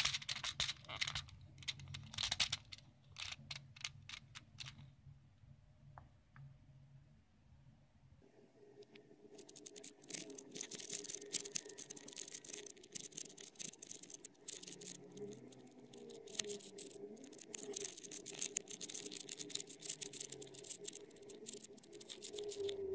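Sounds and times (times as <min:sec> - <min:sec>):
plastic puzzle pieces clicking: 0:00.0 - 0:04.9, 0:09.4 - 0:22.9.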